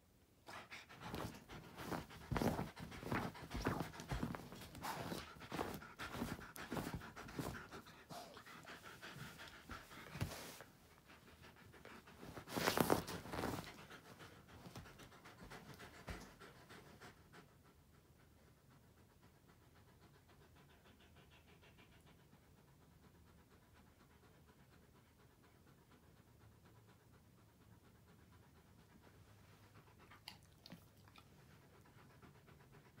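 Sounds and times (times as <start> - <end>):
dog panting: 0.5 - 33.0.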